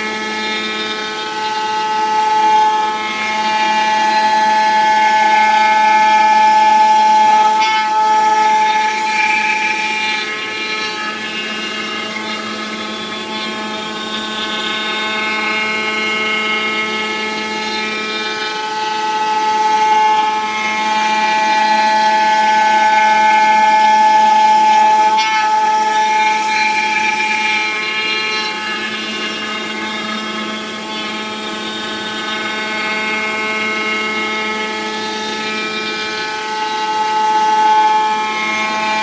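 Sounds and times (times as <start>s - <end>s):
foam cutting machine whine: 0.0s - 39.0s.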